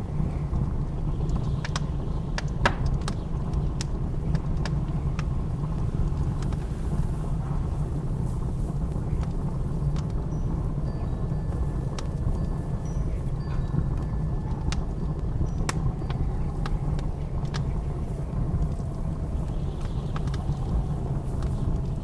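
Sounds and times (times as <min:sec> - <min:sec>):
fire pops: 0:00.0 - 0:22.0
low rumble of wind: 0:00.0 - 0:22.0
wood fire crackling: 0:00.0 - 0:22.0.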